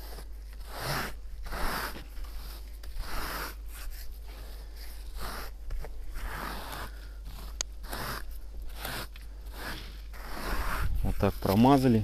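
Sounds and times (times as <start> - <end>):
spatula scraping adhesive on slab: 0.0 - 12.0.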